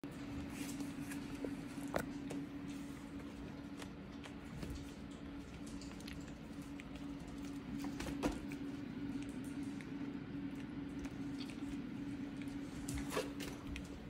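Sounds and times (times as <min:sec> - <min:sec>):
steady low hum: 0:00.0 - 0:14.0
puppies clicking on vinyl mat: 0:00.2 - 0:14.0.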